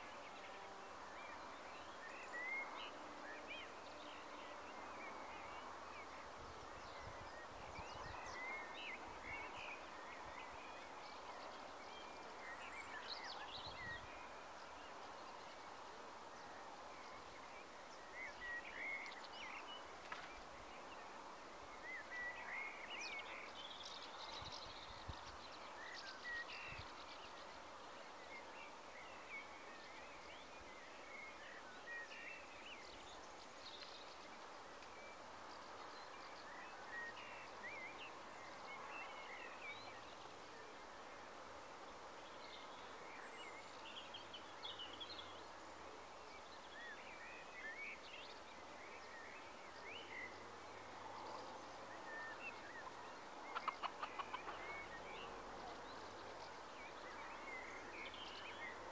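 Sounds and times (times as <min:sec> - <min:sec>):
steady low hiss: 0:00.0 - 0:58.9
small birds chirping: 0:01.2 - 0:58.9.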